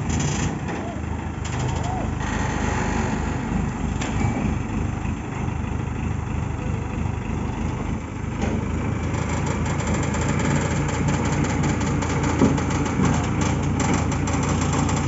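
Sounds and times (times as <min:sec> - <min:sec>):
crane diesel engine running: 0:00.0 - 0:15.0.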